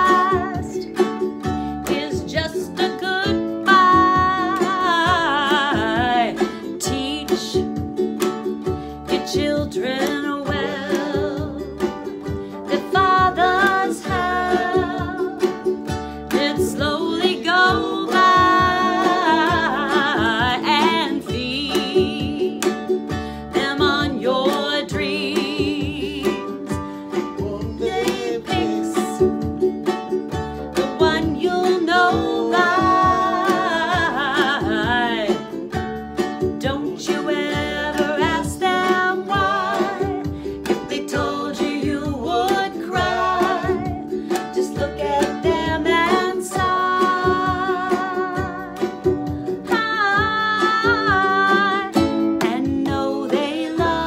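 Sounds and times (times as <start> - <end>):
woman singing a folk song: 0.0 - 29.6, 30.7 - 54.0
double bass plucked: 0.0 - 54.0
ukulele strumming: 0.0 - 54.0.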